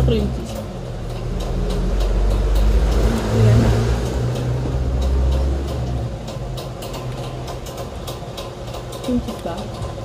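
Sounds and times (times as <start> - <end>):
faint irregular clicks: 0.3 - 10.0.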